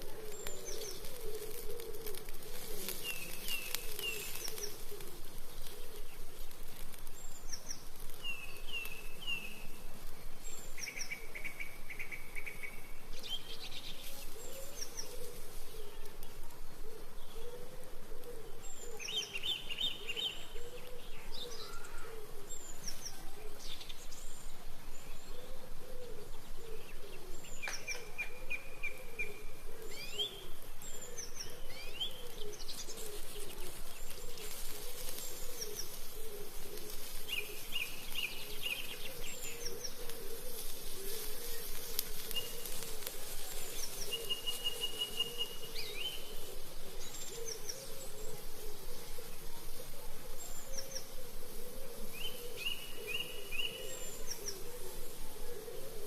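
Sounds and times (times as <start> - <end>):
bird hooting call: 0.0 - 6.3, 14.3 - 16.2, 16.8 - 23.7, 25.3 - 56.0
birds chirping and trilling: 0.0 - 56.0.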